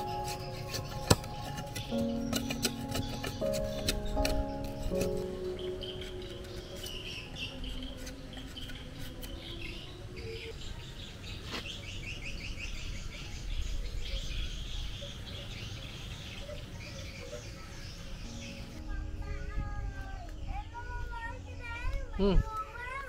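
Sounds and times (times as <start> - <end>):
bird trill: 0.0 - 21.7
birds chirping and calling: 0.0 - 23.0.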